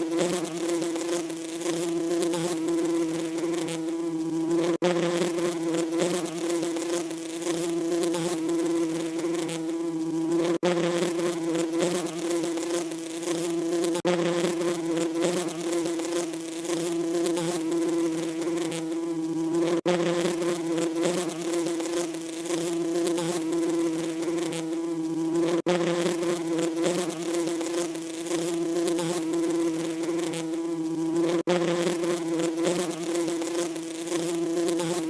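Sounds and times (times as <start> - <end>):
bees buzzing: 0.0 - 35.0.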